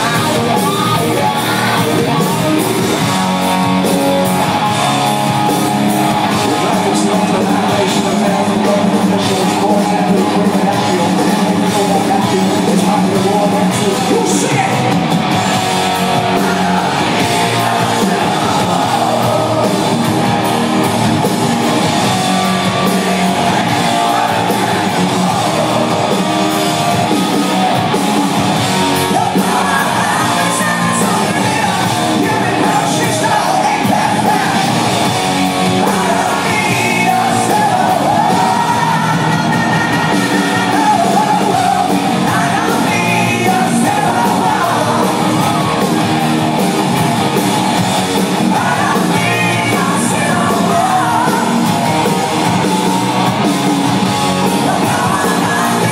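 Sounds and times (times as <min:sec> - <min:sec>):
lead vocal singing and shouting: 0:00.0 - 0:55.9
live hard rock band: 0:00.0 - 0:55.9.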